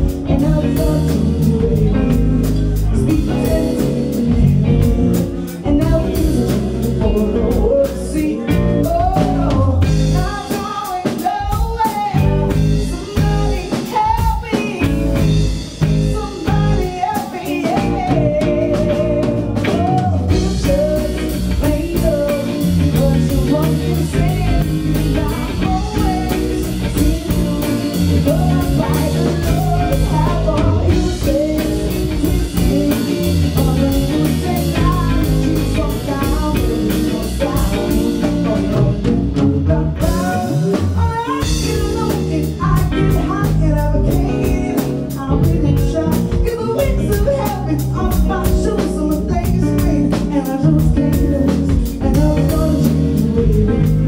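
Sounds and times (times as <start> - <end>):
drum kit with cymbal beat: 0.0 - 54.0
electric guitars: 0.0 - 54.0.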